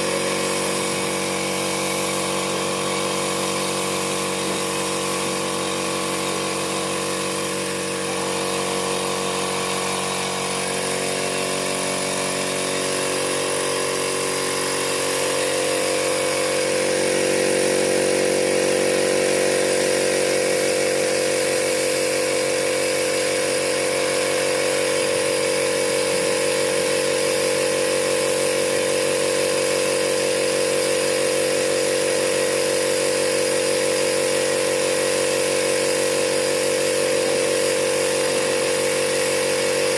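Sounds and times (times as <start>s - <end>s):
power tool motor running: 0.0s - 39.9s.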